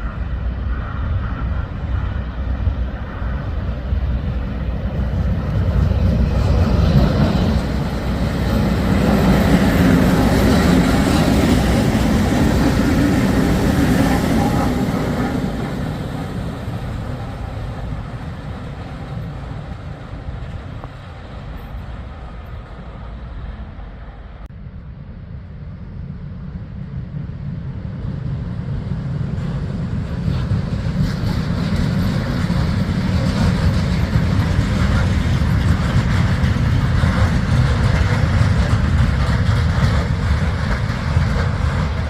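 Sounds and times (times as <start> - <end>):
train passing: 0.0 - 42.0.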